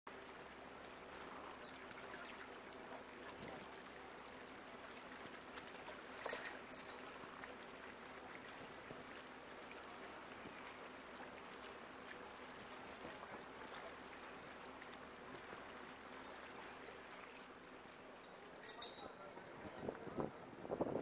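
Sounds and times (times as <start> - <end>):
water lapping against boat: 0.1 - 21.0.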